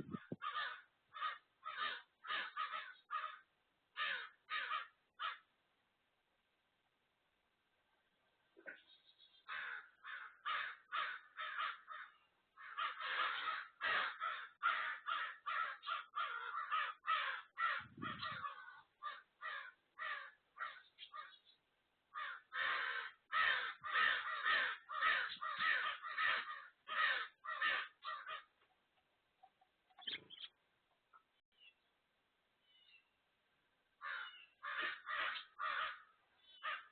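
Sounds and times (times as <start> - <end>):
birds calling: 0.0 - 5.5, 8.6 - 31.9, 32.6 - 33.2, 34.0 - 36.9.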